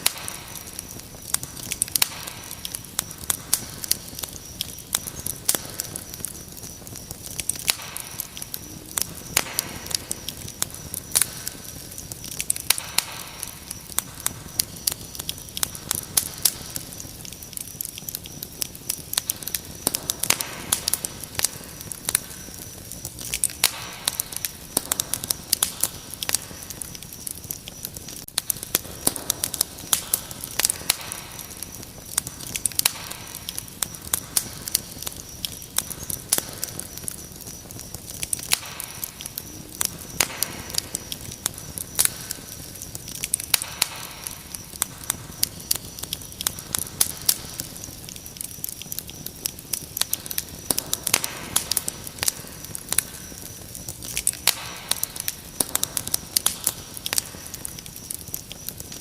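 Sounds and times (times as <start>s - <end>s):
wood fire crackling: 0.0s - 59.0s
crickets trilling: 0.2s - 59.0s.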